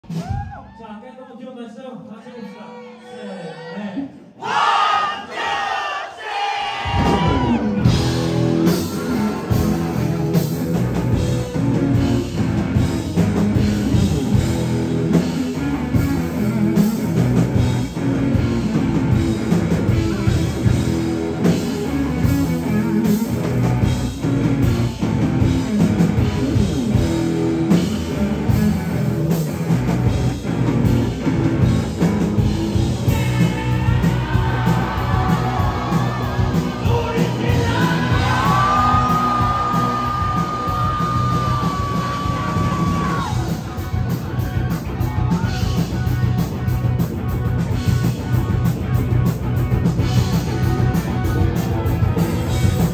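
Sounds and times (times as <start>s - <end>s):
live rock band playing: 6.8s - 52.9s
drum beat: 6.9s - 52.9s.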